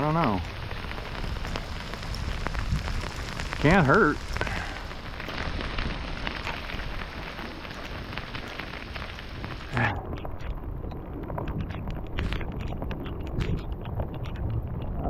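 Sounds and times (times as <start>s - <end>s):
hard rain pattering on water: 0.0s - 15.0s.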